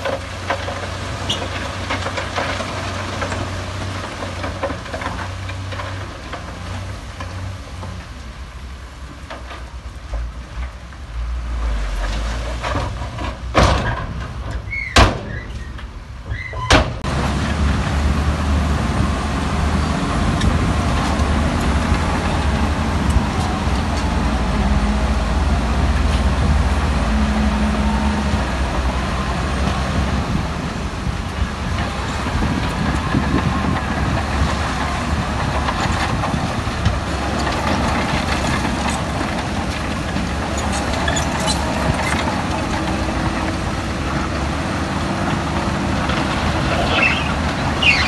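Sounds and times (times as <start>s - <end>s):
heavy diesel machinery rumbling: 0.0s - 48.0s.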